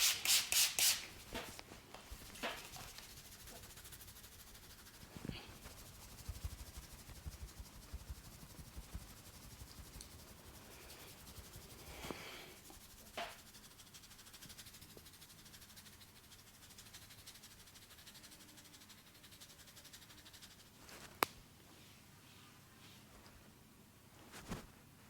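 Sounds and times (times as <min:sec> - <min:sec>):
faint hiss: 0:00.0 - 0:23.1.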